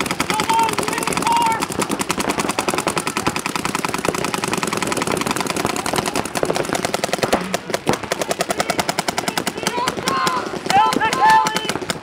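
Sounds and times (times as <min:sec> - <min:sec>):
paintball markers firing rapidly: 0:00.0 - 0:12.0.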